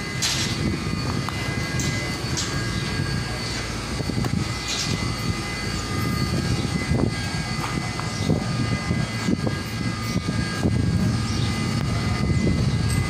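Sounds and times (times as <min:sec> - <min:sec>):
faint whining tones: 0:00.0 - 0:13.0
machinery drone: 0:00.0 - 0:13.0.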